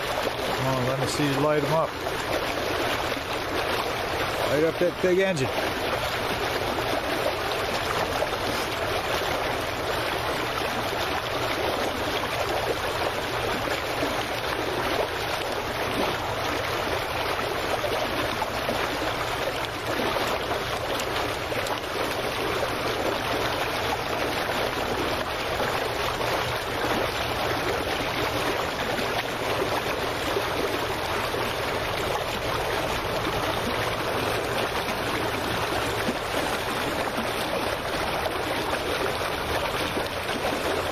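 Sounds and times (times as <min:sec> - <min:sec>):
water washing at dock edge: 0:00.0 - 0:40.9.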